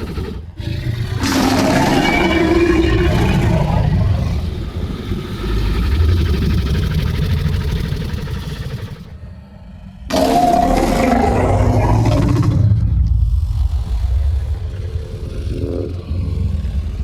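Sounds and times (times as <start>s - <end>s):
monster growl: 0.0s - 17.0s.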